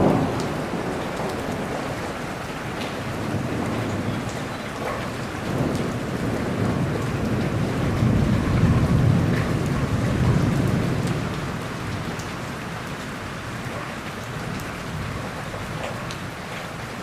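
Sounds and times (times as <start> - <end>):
raindrops ticking: 0.0 - 17.0
steady rain: 0.0 - 17.0
thunder rumble: 0.0 - 17.0.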